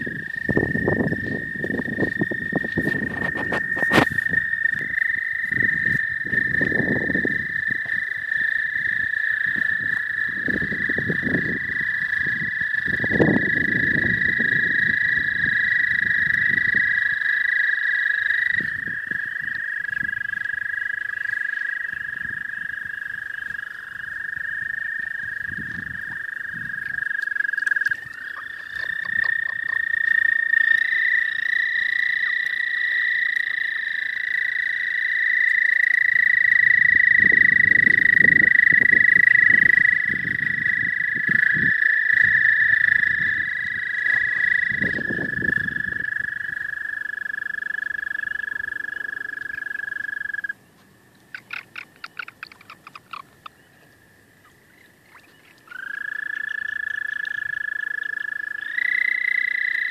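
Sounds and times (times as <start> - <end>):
toads trilling: 0.0 - 59.9.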